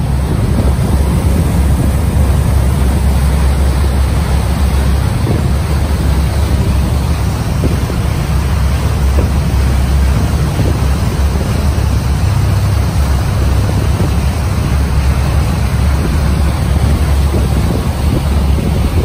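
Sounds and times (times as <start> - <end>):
water churning in boat wake: 0.0 - 19.0
wind buffeting microphone: 0.0 - 19.0.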